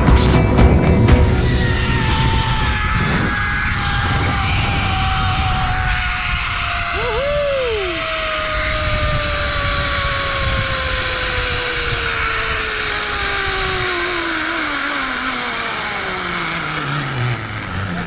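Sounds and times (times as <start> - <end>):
low wind rumble: 0.0 - 18.0
zipline pulleys whining on cable: 1.3 - 18.0.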